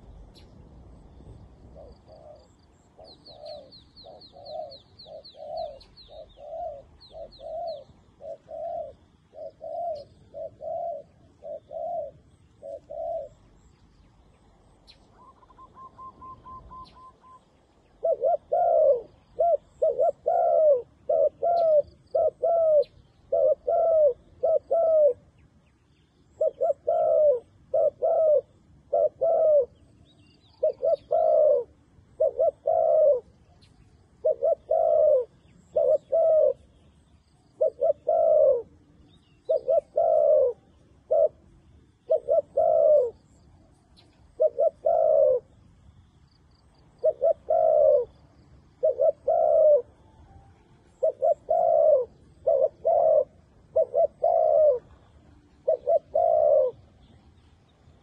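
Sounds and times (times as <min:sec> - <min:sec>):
dove cooing: 0:00.0 - 0:25.5, 0:26.2 - 0:45.7, 0:46.3 - 0:58.0.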